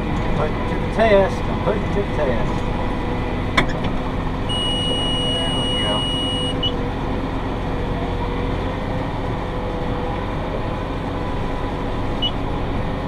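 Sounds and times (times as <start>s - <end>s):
steady whine: 0.0s - 13.0s
tractor engine rumble: 0.0s - 13.0s.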